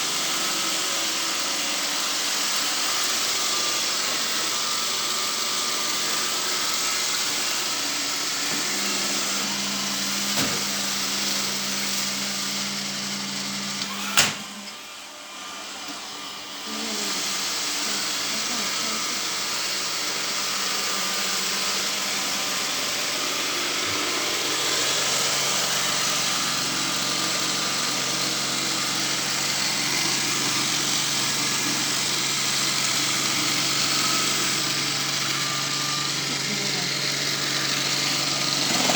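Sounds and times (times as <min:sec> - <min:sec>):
sweeping machine running: 0:00.0 - 0:38.9.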